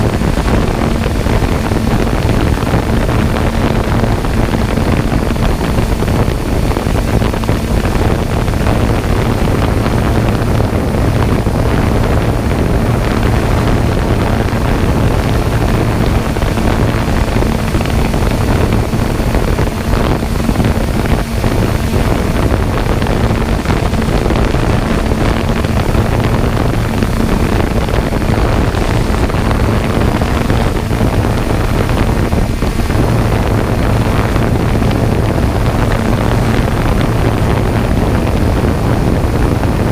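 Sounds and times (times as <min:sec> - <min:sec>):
low motor hum: 0:00.0 - 0:39.9
wind noise on microphone: 0:00.0 - 0:39.9.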